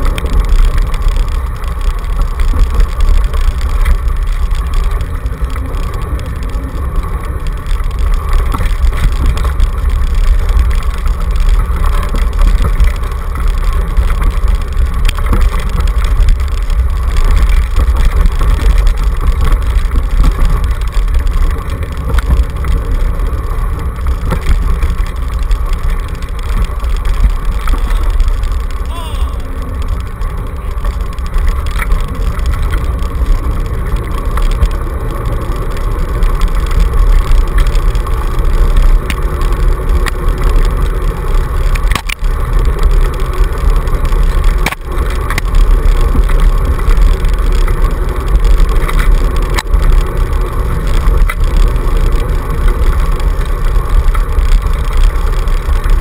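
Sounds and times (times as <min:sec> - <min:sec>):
mid-pitched hum: 0:00.0 - 0:56.0
small rattles: 0:00.0 - 0:56.0
wheels rumbling on dirt trail: 0:00.0 - 0:56.0.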